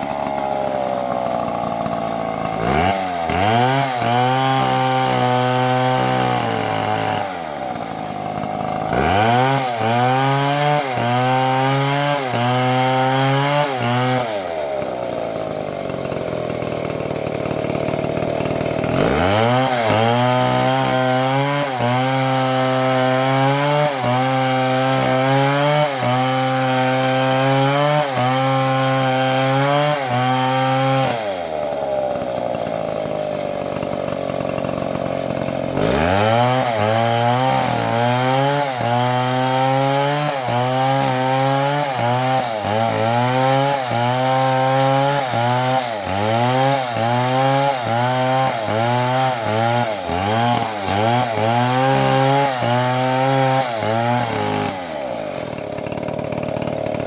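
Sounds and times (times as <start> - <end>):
chainsaw revving and cutting wood: 0.0 - 57.0.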